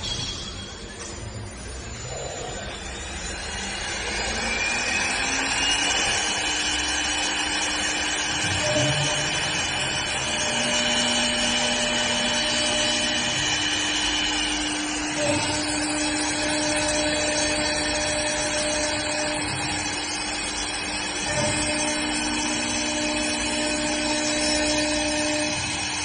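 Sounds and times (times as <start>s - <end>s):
wood lathe motor running: 1.7s - 26.0s.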